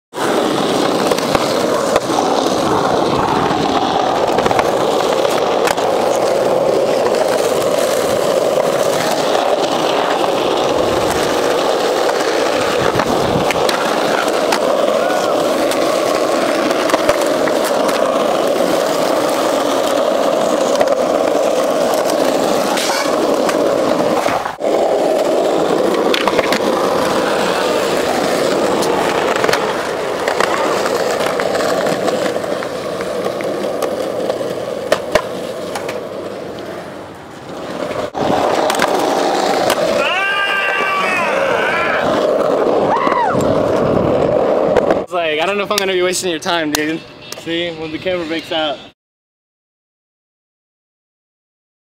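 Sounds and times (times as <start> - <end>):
skateboard wheels rolling on asphalt: 0.1 - 48.9
skateboard clacks: 0.2 - 47.5.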